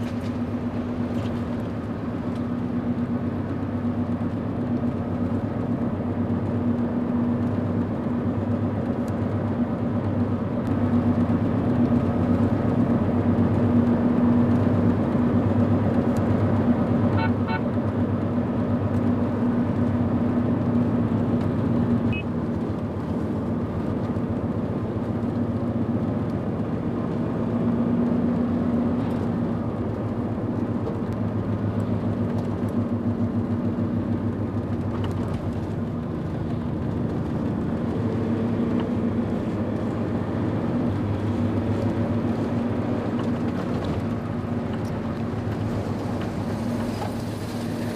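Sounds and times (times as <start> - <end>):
car engine hum: 0.0 - 47.9.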